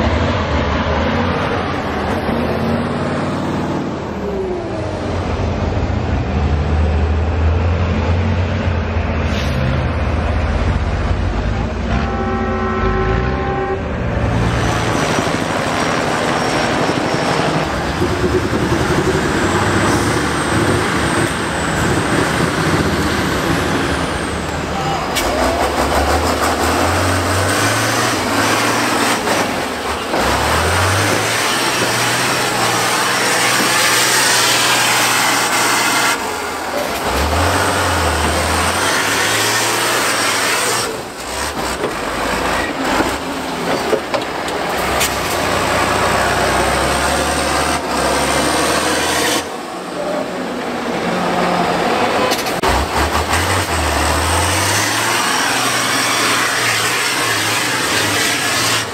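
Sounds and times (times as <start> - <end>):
diesel truck engine revving: 0.0 - 58.9.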